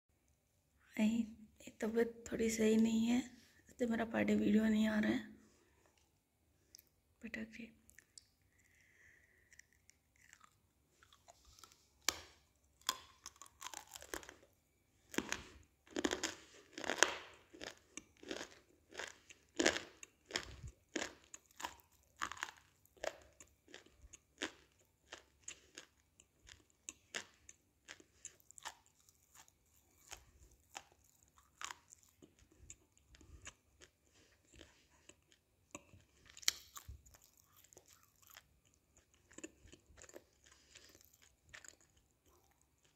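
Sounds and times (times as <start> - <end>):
clay crunching as chewed: 7.9 - 42.9.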